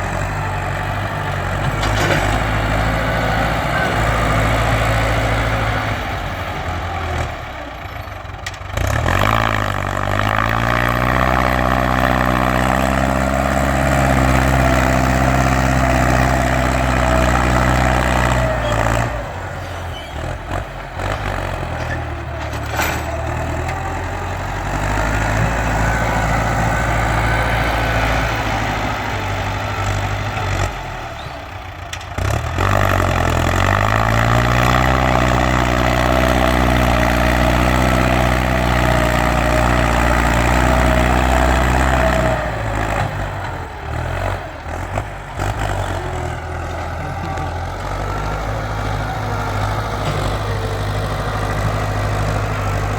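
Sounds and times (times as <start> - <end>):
tractor engine revving: 0.0 - 52.9.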